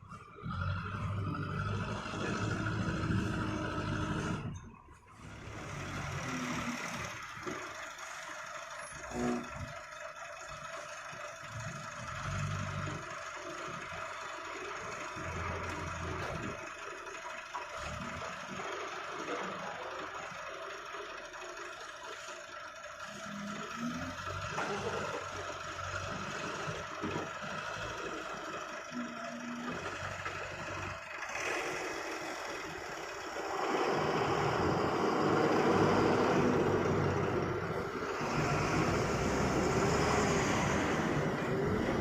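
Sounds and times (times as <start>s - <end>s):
diesel engine under load: 0.0s - 42.0s.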